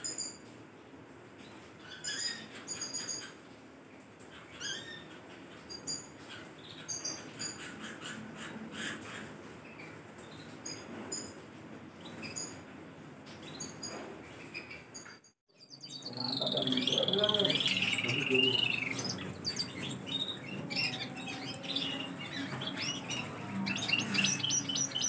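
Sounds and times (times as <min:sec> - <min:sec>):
canaries chirping: 0:01.3 - 0:03.5, 0:04.2 - 0:25.0
canary warbling song: 0:01.4 - 0:03.5, 0:04.2 - 0:11.4, 0:13.4 - 0:25.0.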